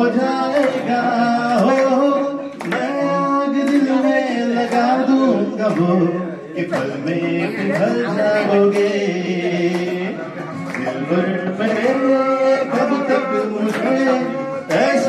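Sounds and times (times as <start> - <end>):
karaoke backing track over speakers: 0.0 - 15.0
man singing into a microphone: 0.0 - 15.0.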